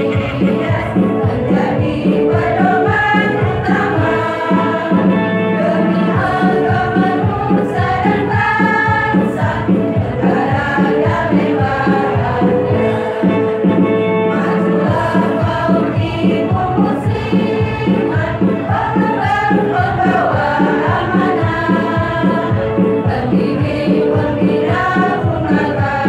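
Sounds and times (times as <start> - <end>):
women's choir singing: 0.0 - 26.0.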